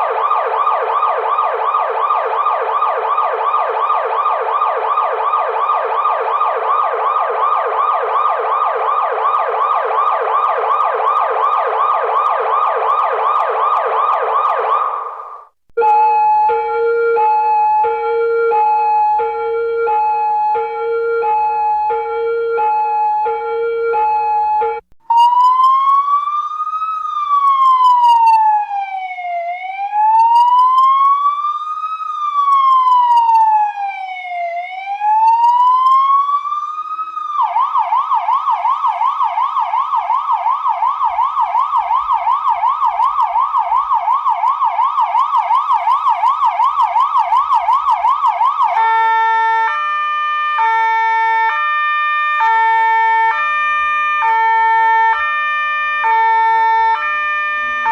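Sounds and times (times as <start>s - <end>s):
police siren wail yelp hi-lo: 0.0s - 57.9s.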